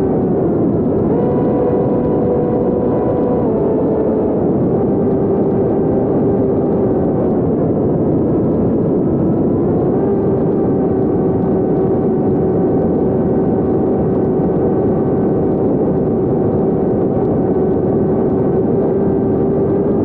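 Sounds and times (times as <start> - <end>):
electric motor and propeller whine: 0.0 - 20.0
rushing wind noise: 0.0 - 20.0.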